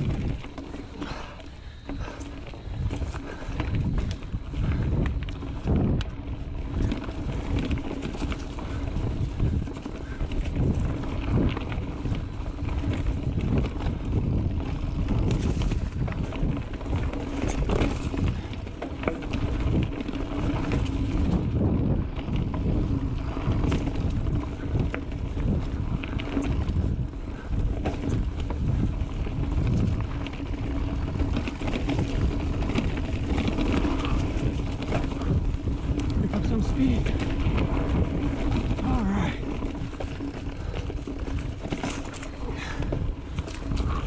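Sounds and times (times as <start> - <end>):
bike knocking and rattling: 0.0 - 44.0
bike tyres rumbling: 0.0 - 44.0
wind rushing over microphone: 0.0 - 44.0.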